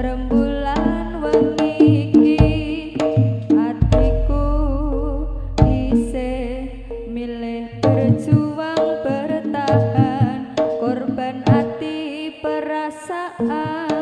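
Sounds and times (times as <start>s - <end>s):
hand drum strokes: 0.0s - 12.0s
wavering gamelan melody: 0.0s - 14.0s.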